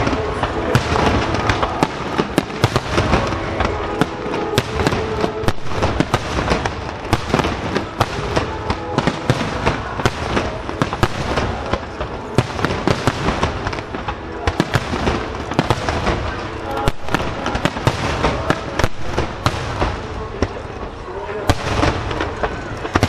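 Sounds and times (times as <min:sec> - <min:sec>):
firework shell bursts and crackling: 0:00.0 - 0:20.7.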